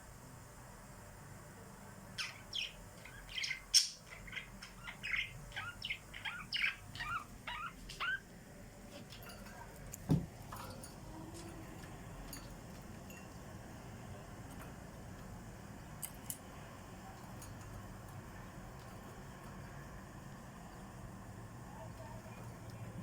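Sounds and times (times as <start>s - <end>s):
small birds chirping: 1.9s - 23.0s.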